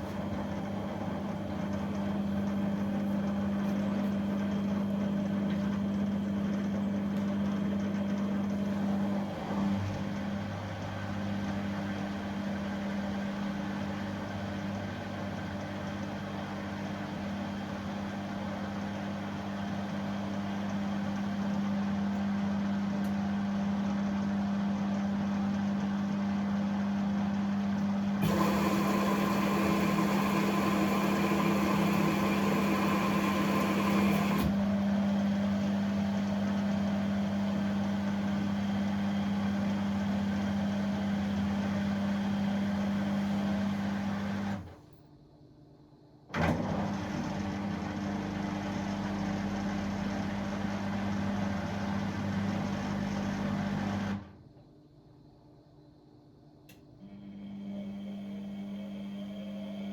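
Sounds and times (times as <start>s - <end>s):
appliance motor hum: 0.0s - 44.8s, 56.7s - 59.9s.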